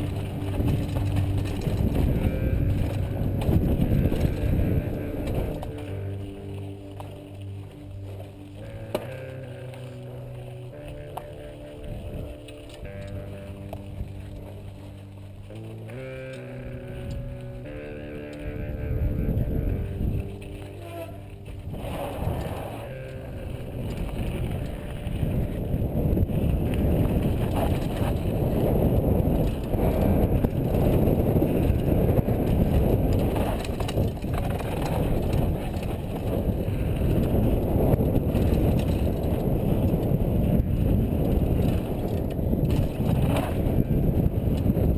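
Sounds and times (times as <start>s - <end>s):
bike rattling over rough trail: 0.0s - 44.9s
wind buffeting microphone: 0.0s - 44.9s.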